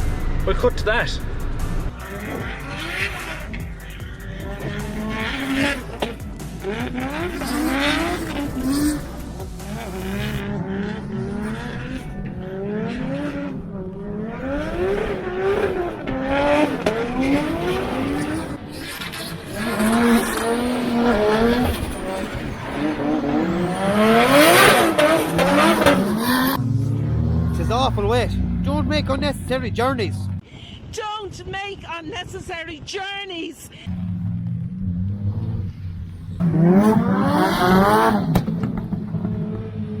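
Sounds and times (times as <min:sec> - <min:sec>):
car engines revving hard: 0:00.0 - 0:30.4, 0:33.9 - 0:40.0.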